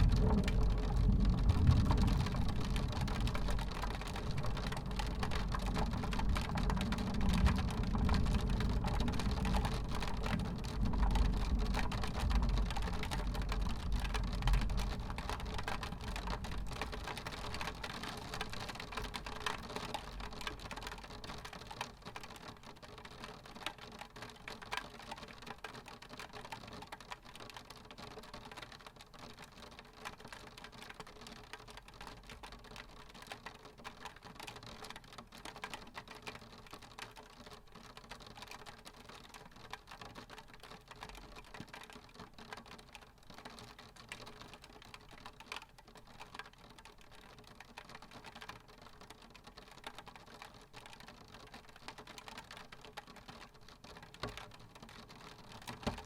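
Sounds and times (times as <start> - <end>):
raindrops tapping on window glass: 0.0 - 56.0
soft hiss of rain: 0.0 - 56.0.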